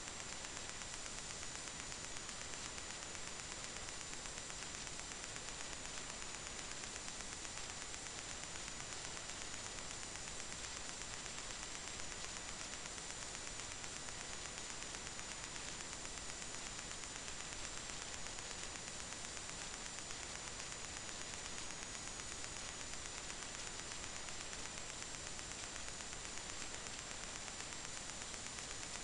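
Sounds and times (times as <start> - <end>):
electronic hiss: 0.0 - 29.0
faint high-pitched whine: 0.0 - 29.0.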